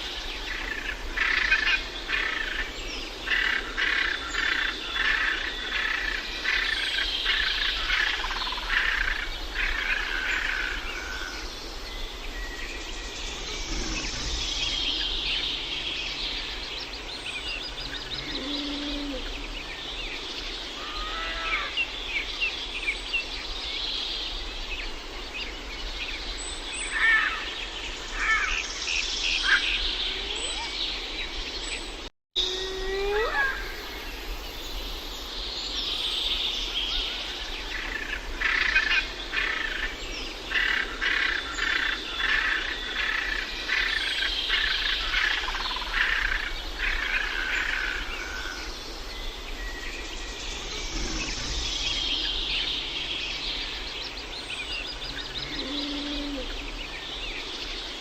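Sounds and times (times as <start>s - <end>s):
birds chirping and calling: 0.0s - 58.0s
outdoor background noise: 0.0s - 58.0s.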